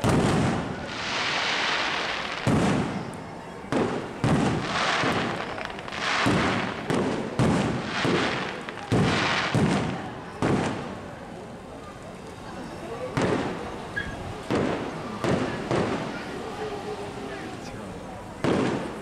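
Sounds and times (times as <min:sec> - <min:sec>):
fireworks booming: 0:00.0 - 0:11.3, 0:13.0 - 0:16.8, 0:18.4 - 0:19.0
fireworks crackling: 0:00.0 - 0:19.0.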